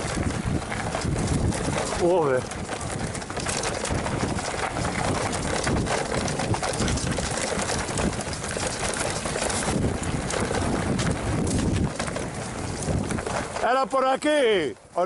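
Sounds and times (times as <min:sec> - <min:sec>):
wind noise on microphone: 0:00.0 - 0:13.7
bike rattling and knocking: 0:00.0 - 0:15.0
bike tyres rolling over rocks: 0:00.0 - 0:15.0.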